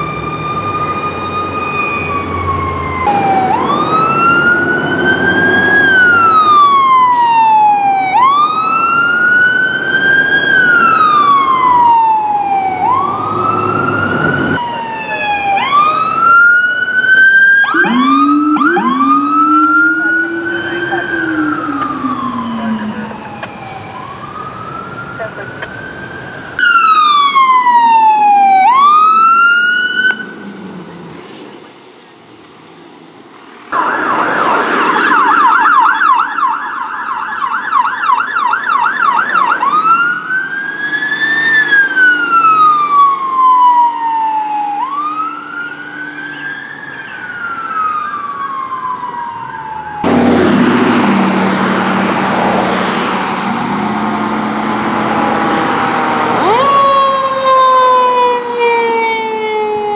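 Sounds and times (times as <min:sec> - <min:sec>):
emergency vehicle sirens: 0:00.0 - 0:59.9.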